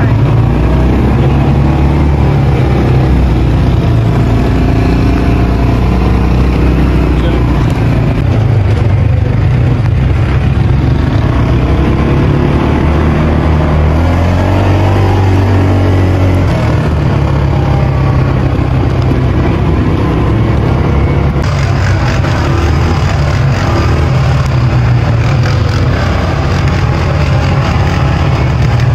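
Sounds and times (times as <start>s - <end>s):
small vehicle engine running: 0.0s - 28.9s.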